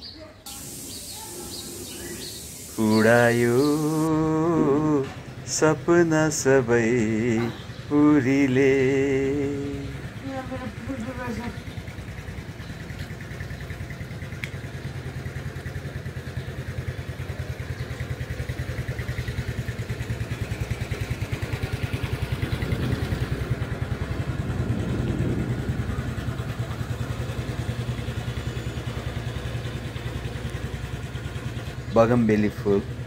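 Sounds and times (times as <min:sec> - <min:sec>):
small engine throbbing: 0:00.5 - 0:33.0.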